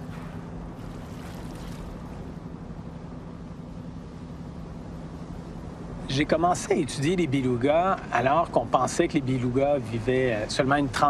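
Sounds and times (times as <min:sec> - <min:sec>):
motorboat engine humming: 0:00.0 - 0:11.0
wind: 0:00.0 - 0:11.0.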